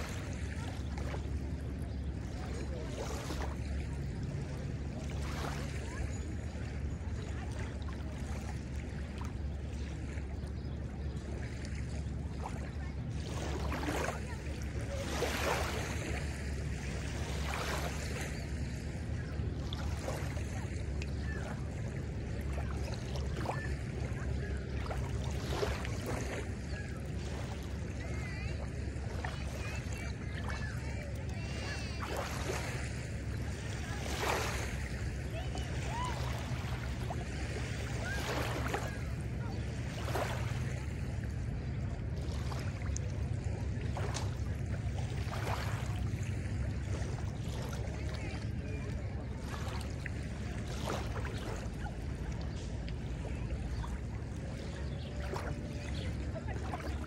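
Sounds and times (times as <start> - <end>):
wavelets lapping on shore: 0.0 - 57.0.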